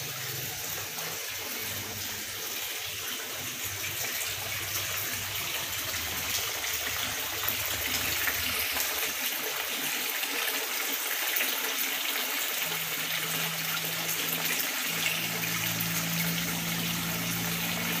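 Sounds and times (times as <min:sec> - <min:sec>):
water pouring from pipe: 0:00.0 - 0:18.0.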